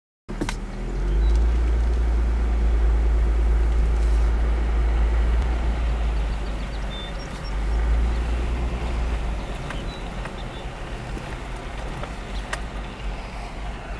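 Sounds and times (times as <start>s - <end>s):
vehicle engine drone and rumble: 0.3s - 13.9s.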